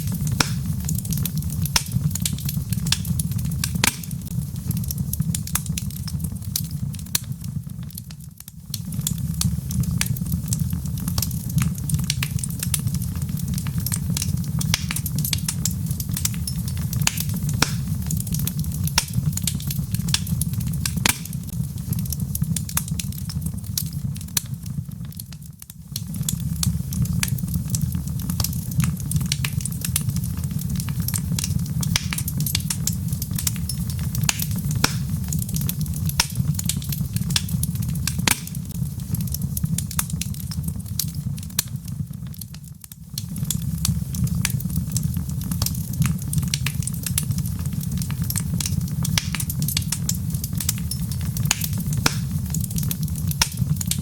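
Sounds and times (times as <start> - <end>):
logs crackling and popping: 0.0 - 54.0
low rumble of flames: 0.0 - 54.0.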